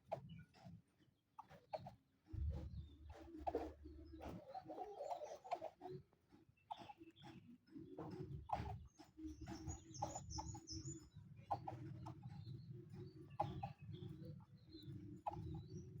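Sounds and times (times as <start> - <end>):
low cooing bird calls: 2.4 - 6.0, 6.7 - 16.0.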